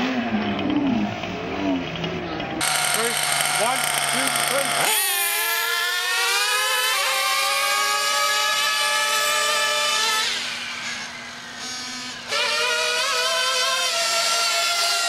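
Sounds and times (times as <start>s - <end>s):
remote control car motor whine: 2.6s - 15.0s.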